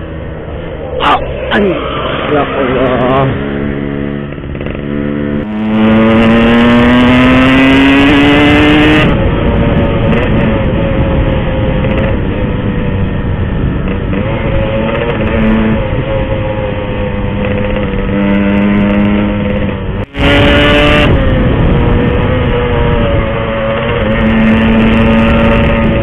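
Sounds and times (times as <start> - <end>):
two-stroke motorcycle engine: 3.5 - 26.0.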